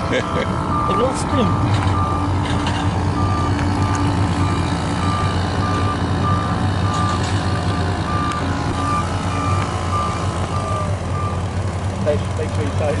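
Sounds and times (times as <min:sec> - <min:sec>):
reversing alarm beeping: 0:00.0 - 0:11.5
vehicle engine running: 0:00.0 - 0:13.0.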